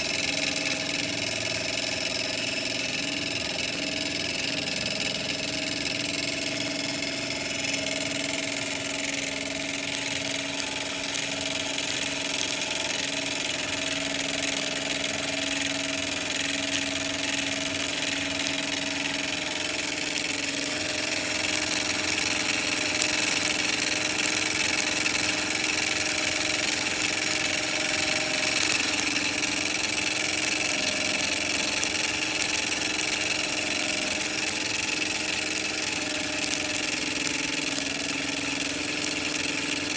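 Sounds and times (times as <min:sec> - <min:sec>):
miniature steam engine running: 0:00.0 - 0:39.9.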